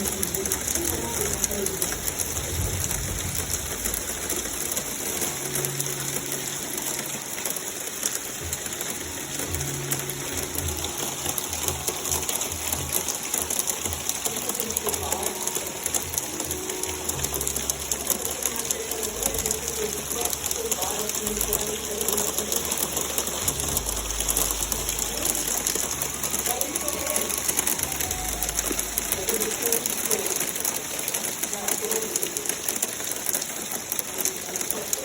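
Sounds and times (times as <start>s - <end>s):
heavy rain with hail: 0.0s - 35.0s.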